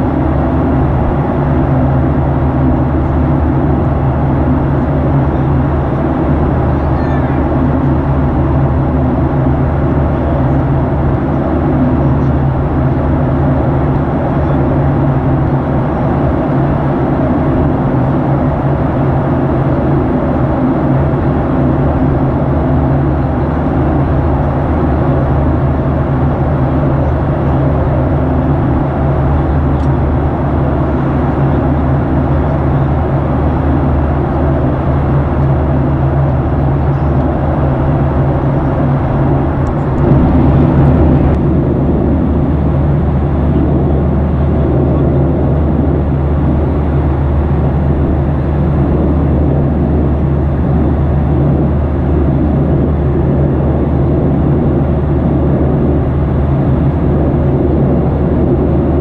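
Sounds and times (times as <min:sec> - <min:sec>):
jet engines droning: 0:00.0 - 0:59.0
rush of airflow: 0:00.0 - 0:59.0.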